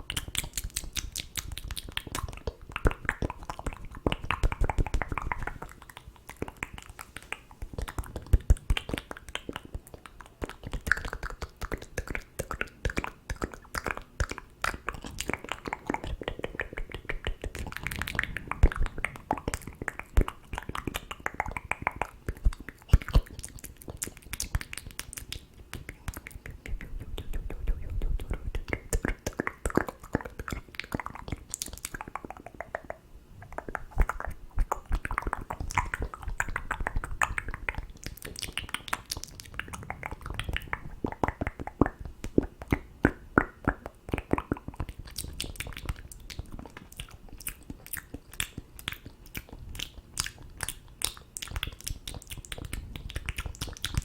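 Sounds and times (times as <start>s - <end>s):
wet mouth clicks and lip smacks: 0.0s - 54.0s.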